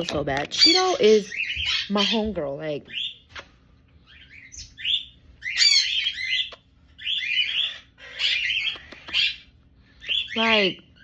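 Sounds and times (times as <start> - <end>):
parrot squawking and chattering: 0.4 - 2.3, 2.9 - 11.0.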